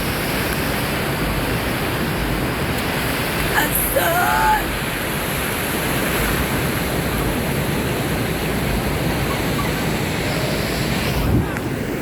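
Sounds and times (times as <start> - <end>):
ocean waves washing on beach: 0.0 - 12.0.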